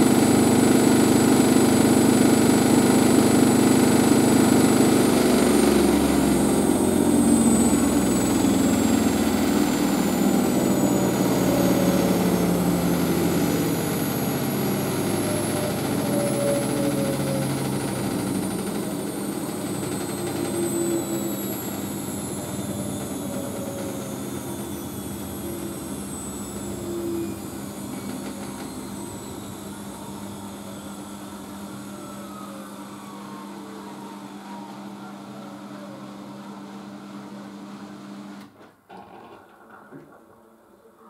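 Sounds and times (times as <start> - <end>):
washing machine drum whine: 0.0 - 41.0.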